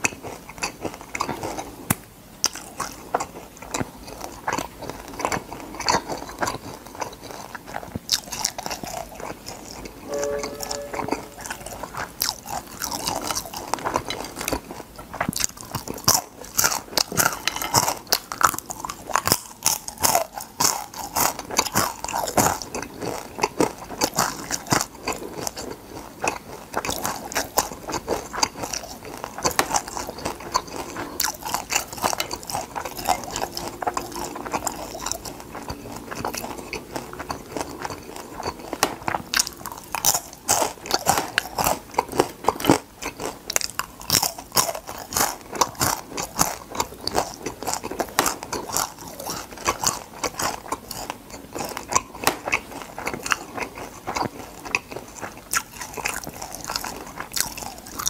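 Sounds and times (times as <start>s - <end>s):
crunching and chewing fried food: 0.0s - 10.0s, 11.8s - 58.0s.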